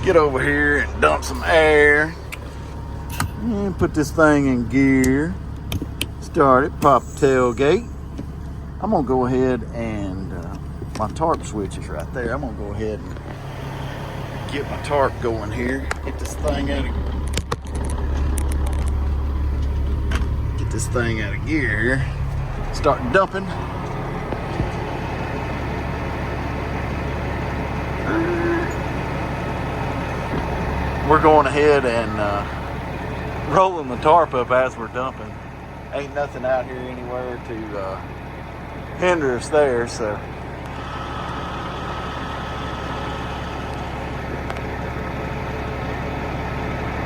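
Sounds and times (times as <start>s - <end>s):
diesel truck engine idling: 0.0s - 47.0s
hydraulic pump whine: 0.0s - 47.0s.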